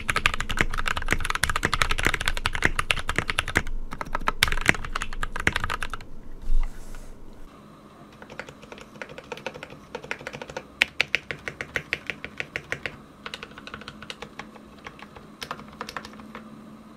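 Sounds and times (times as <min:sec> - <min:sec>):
mechanical keyboard typing: 0:00.0 - 0:06.0, 0:08.2 - 0:16.5.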